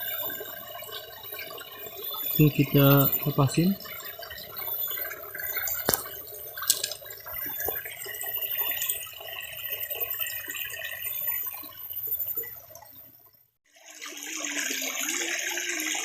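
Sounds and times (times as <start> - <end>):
water trickling in a stream: 0.0 - 16.0.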